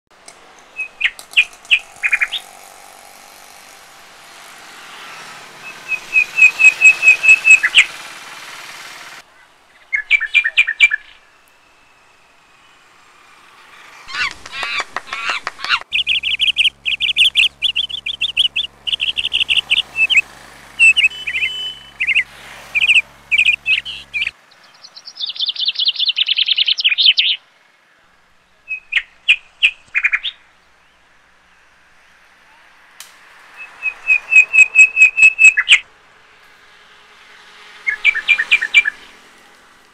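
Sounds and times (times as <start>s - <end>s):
birds chirping: 0.6s - 36.4s, 37.2s - 39.7s.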